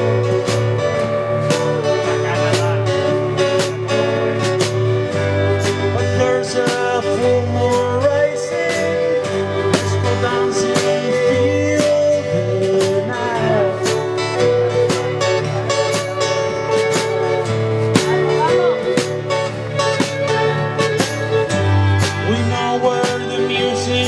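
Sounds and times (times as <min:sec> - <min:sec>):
acoustic guitar piece: 0:00.0 - 0:24.0.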